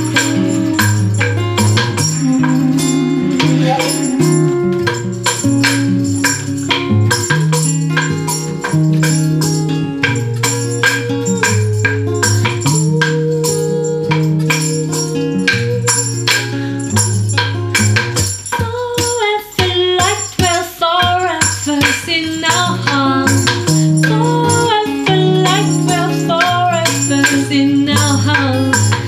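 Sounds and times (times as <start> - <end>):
music with held bass notes: 0.0 - 18.6, 21.4 - 29.0.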